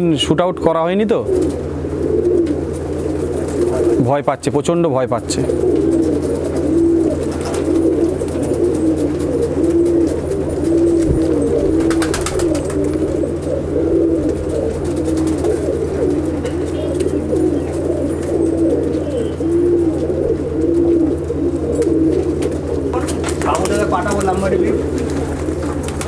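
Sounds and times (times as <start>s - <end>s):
pigeons cooing: 0.0s - 26.0s
steady low hum: 0.0s - 26.0s.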